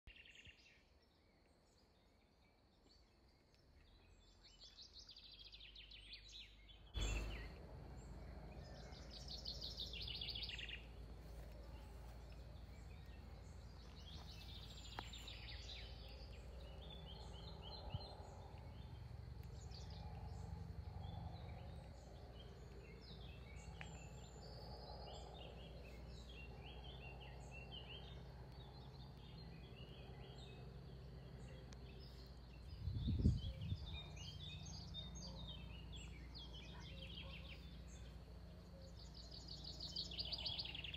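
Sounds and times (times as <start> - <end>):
birds singing and chirping: 0.1 - 40.9
steady low background noise: 6.7 - 40.9.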